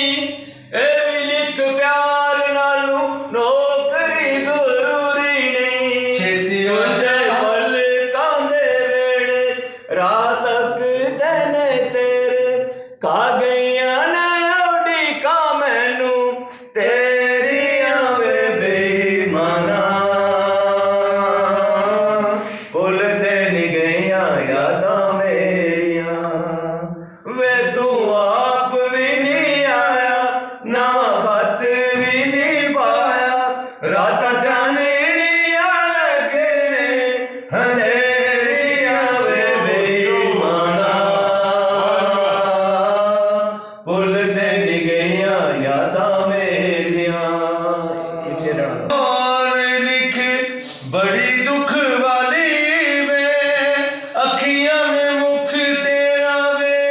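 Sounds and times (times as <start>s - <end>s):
men singing slow melody: 0.0s - 56.9s.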